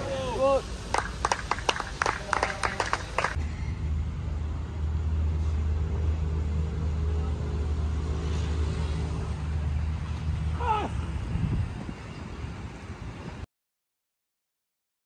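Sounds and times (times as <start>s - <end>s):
vehicle low rumble: 0.0s - 13.5s.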